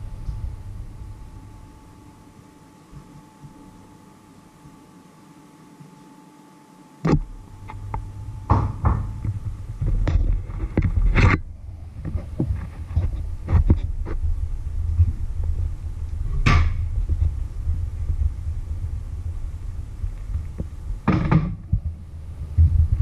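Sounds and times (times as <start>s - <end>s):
steady low rumble: 0.0s - 3.9s, 7.2s - 23.0s.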